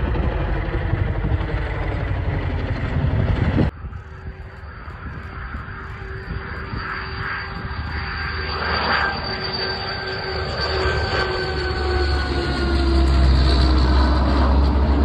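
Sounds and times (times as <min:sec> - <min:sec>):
deep rumble: 0:00.0 - 0:15.0
military aircraft engines: 0:00.0 - 0:15.0
high steady whine: 0:02.0 - 0:15.0.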